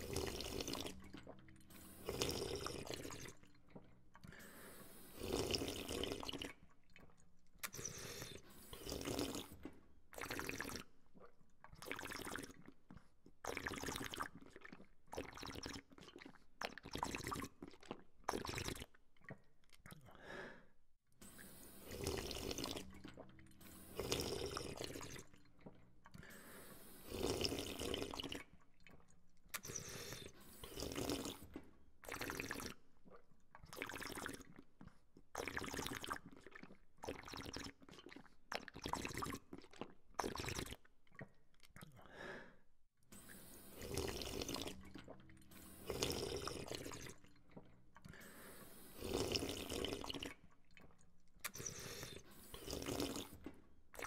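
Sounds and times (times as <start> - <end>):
person sipping: 0.0 - 6.7, 7.6 - 20.6, 21.2 - 34.6, 35.4 - 54.0.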